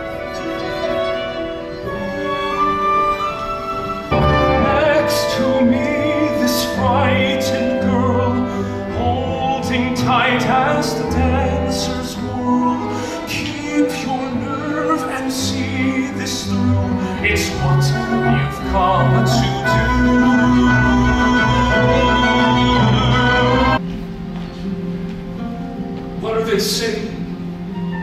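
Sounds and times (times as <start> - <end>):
singers holding notes with vibrato: 0.0 - 23.8
theatre orchestra playing: 0.0 - 28.0.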